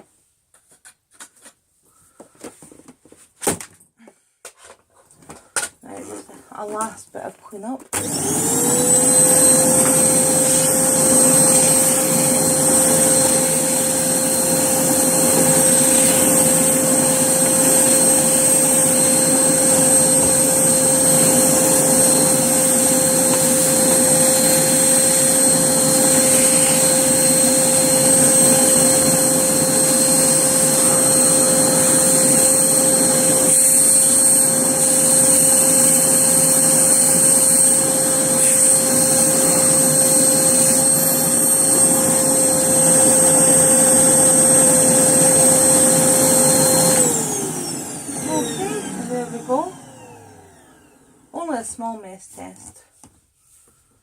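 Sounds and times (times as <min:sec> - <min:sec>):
vacuum cleaner running: 0:07.9 - 0:52.0.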